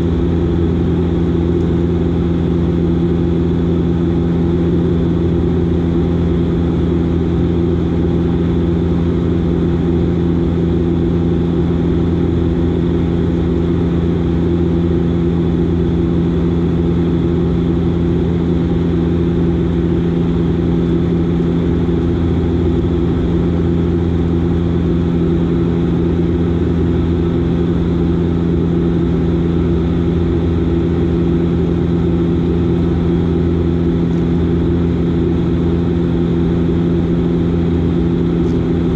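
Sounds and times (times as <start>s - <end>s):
turboprop engines droning in cabin: 0.0s - 38.9s.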